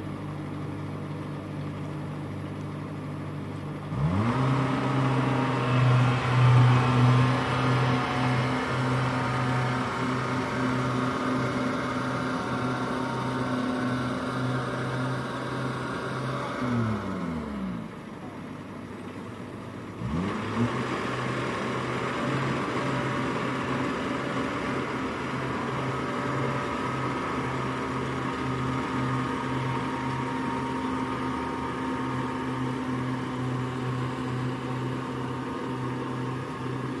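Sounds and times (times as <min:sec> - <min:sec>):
harvester engine revving: 0:03.8 - 0:18.0, 0:19.9 - 0:37.0.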